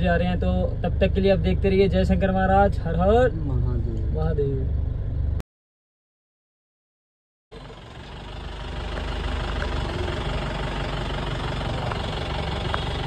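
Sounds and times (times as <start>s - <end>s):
engine idling: 0.0s - 5.4s, 7.5s - 13.0s.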